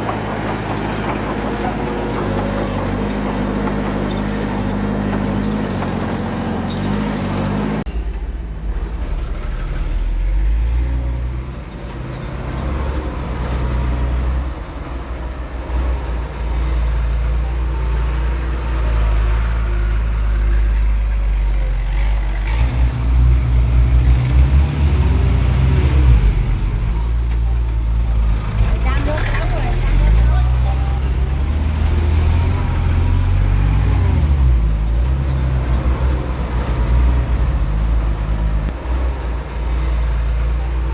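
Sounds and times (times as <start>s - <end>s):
heavy diesel engine rumbling: 0.0s - 40.9s.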